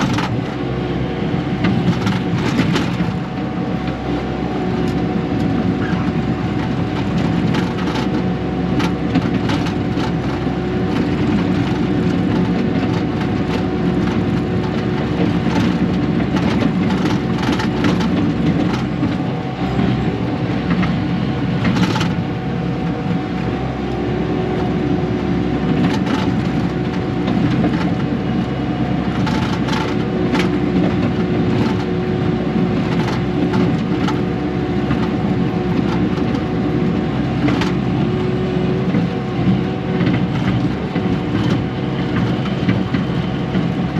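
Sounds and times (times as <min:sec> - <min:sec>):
diesel earthmoving machine running: 0:00.0 - 0:43.9.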